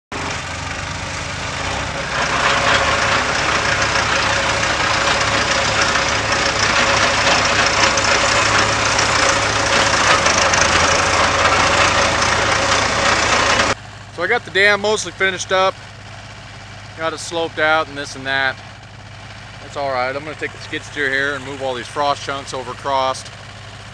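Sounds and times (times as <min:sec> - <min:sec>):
dozer diesel engine running: 0:00.0 - 0:23.9.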